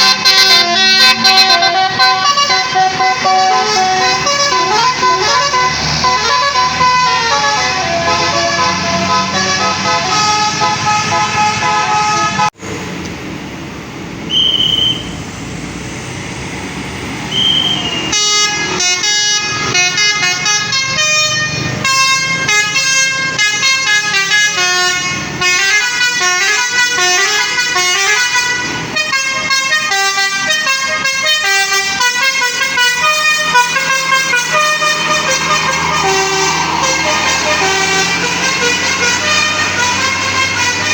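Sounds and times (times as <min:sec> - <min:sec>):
bus musical horn melody: 0:00.0 - 0:12.6, 0:17.3 - 0:40.9
engine and road noise: 0:00.0 - 0:40.9.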